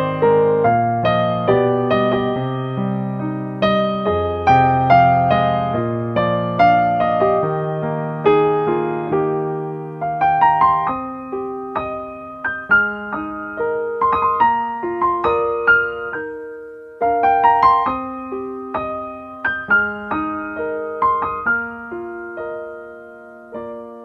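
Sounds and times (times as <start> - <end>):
gentle solo piano: 0.0 - 24.0.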